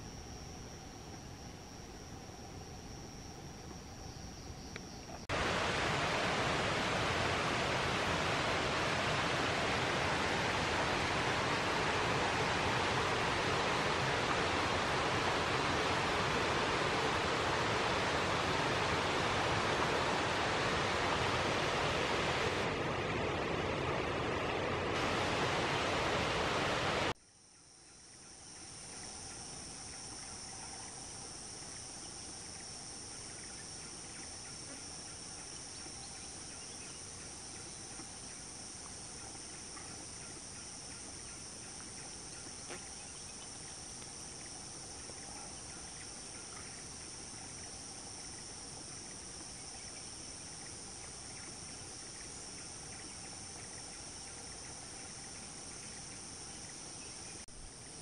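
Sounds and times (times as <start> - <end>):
insects buzzing: 0.0 - 58.0.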